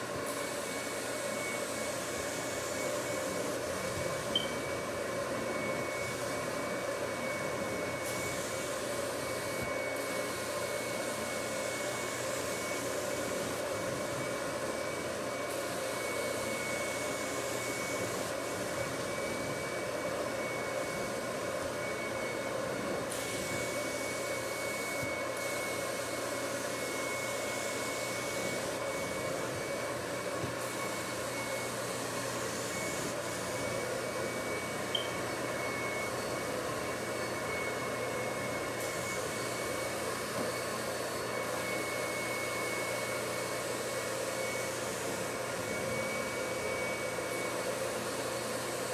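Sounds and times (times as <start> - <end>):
carpet extraction vacuum running: 0.0 - 48.9.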